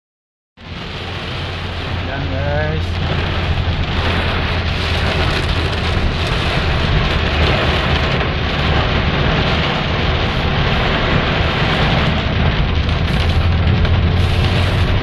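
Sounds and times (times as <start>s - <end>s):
heavy rain: 0.6s - 15.0s
low rumble: 0.6s - 15.0s.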